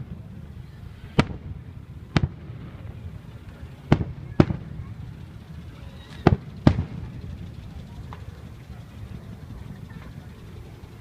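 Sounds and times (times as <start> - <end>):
fireworks shells bursting: 0.0 - 10.7.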